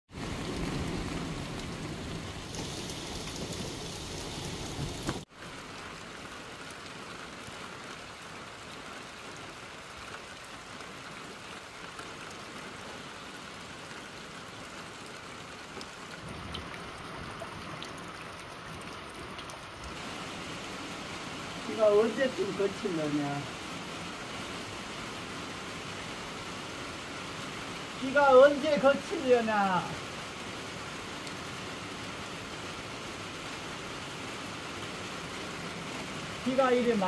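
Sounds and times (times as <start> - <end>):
steady rain hiss: 0.1 - 37.0.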